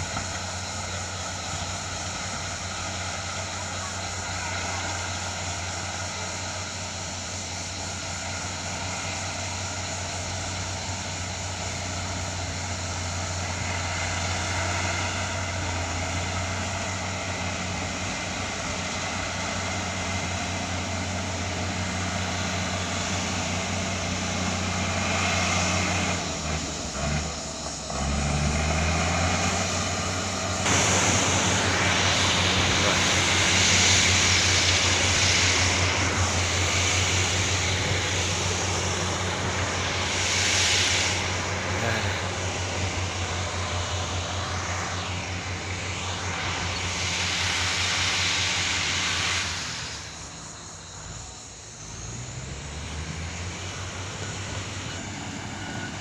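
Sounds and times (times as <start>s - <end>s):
excavator diesel engine running: 0.0s - 56.0s
loud hiss: 0.0s - 56.0s.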